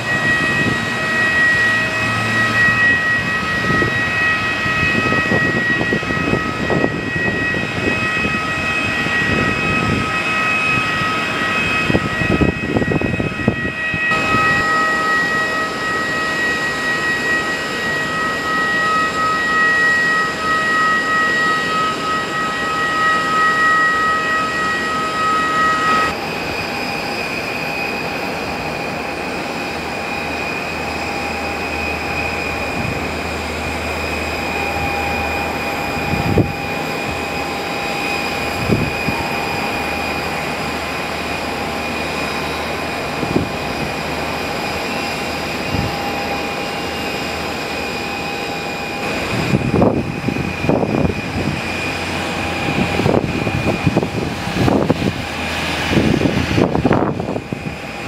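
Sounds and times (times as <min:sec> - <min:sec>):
mechanical whine over hum: 0:00.0 - 0:58.0.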